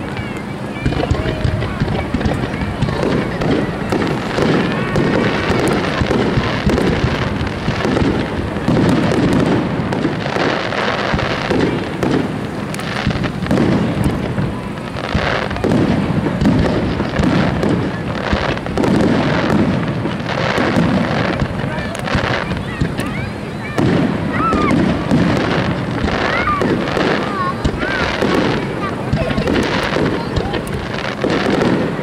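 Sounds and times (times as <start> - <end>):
fireworks booming: 0.0 - 32.0
fireworks crackling: 0.0 - 32.0.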